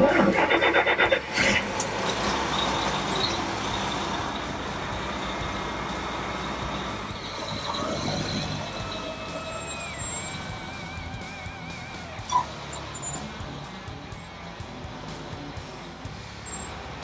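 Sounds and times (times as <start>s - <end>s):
diesel engine starting and idling: 0.0s - 17.0s.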